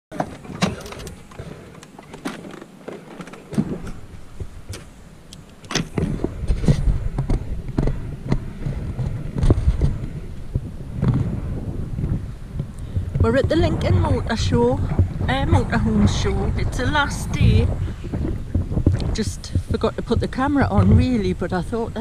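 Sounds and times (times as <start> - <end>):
wind buffeting microphone: 0.4 - 22.0.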